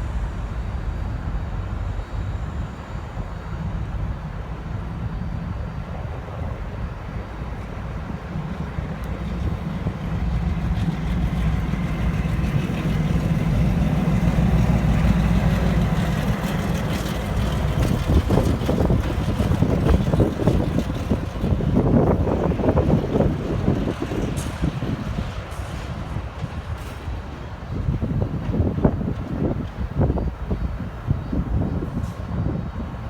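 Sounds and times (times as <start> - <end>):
diesel train rumbling: 0.0 - 33.0.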